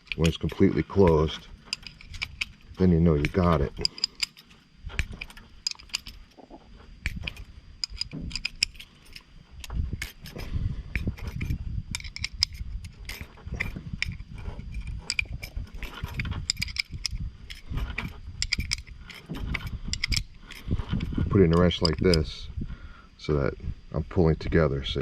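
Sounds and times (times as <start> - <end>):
wrench clicking on metal bolts: 0.0 - 6.2, 7.0 - 10.4, 11.0 - 22.3
low uneven rumble: 0.0 - 25.0.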